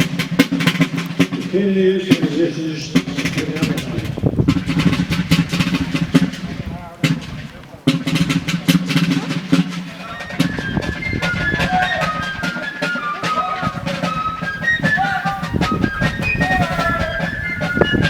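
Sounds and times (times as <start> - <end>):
drum strokes: 0.0 - 18.0
fife playing melody: 0.0 - 18.0.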